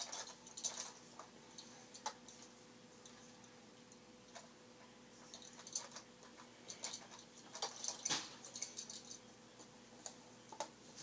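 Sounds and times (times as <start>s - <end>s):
plastic toys clicking and clattering: 0.0s - 3.2s, 5.2s - 11.0s.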